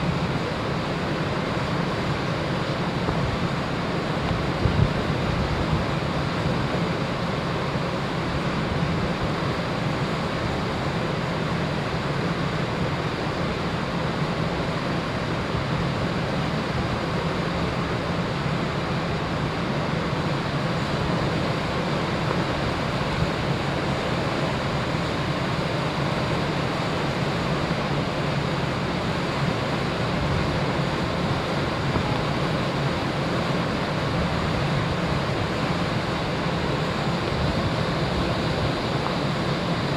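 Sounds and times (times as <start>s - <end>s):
wind and sea water rushing: 0.0s - 39.9s.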